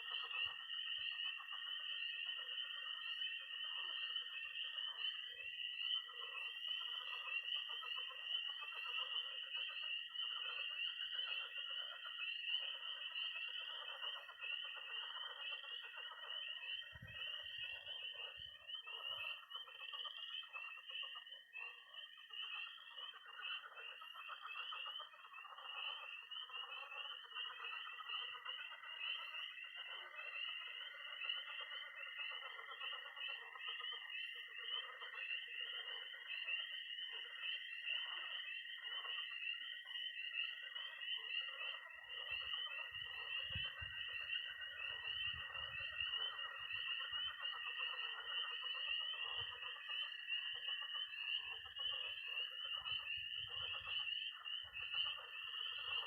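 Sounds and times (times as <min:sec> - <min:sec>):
frogs croaking: 0:00.0 - 0:56.0
spring peepers peeping: 0:00.0 - 0:56.0.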